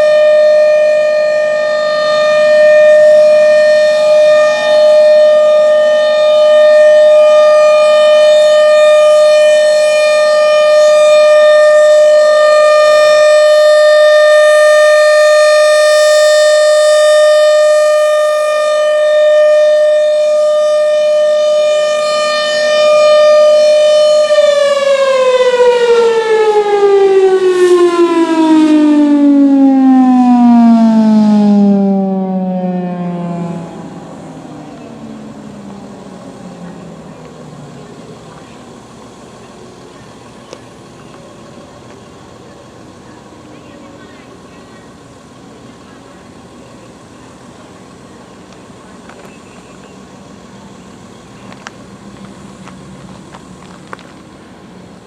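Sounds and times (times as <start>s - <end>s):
tornado siren wailing: 0.0s - 45.0s.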